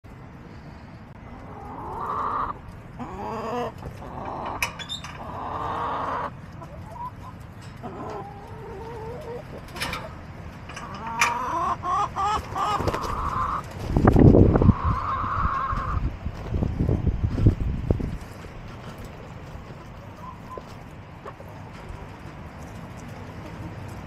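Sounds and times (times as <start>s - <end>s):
hens clucking and calling: 1.2s - 16.6s, 18.2s - 24.0s.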